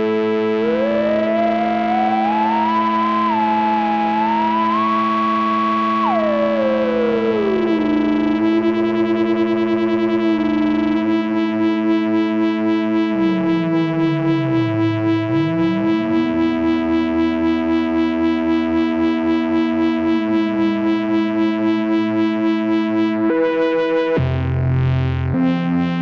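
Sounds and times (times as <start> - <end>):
synthesizer held note wobbling: 0.0 - 24.4.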